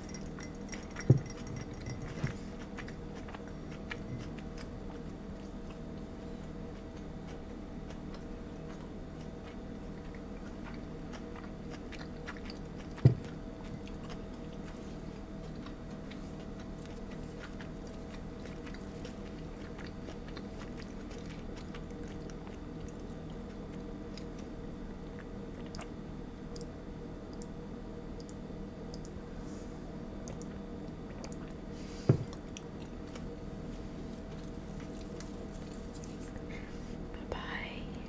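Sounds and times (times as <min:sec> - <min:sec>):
steady low hum: 0:00.0 - 0:38.0
person chewing food: 0:00.1 - 0:27.5, 0:30.1 - 0:36.7.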